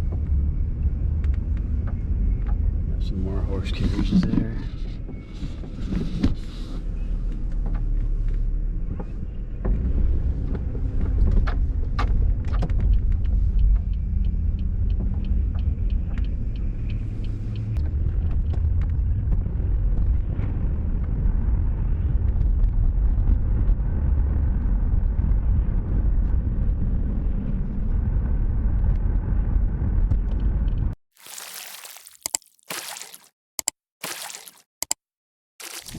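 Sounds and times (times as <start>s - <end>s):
car rumble on road: 0.0s - 31.0s.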